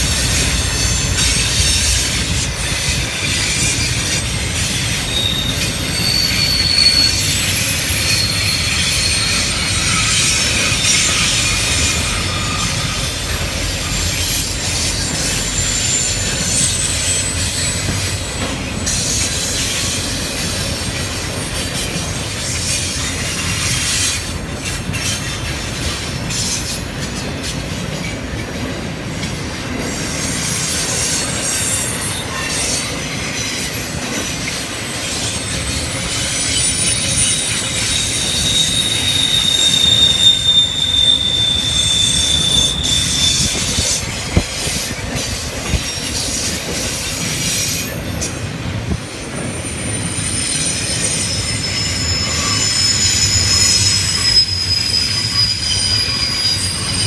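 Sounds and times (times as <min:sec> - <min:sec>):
high wheel squeals: 0:00.0 - 0:57.0
train wheels rumbling on rail: 0:00.0 - 0:57.0.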